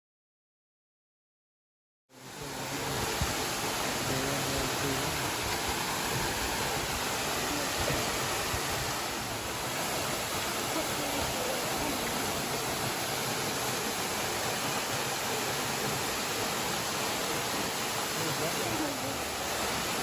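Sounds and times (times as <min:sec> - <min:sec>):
waterfall roaring: 0:02.2 - 0:20.0.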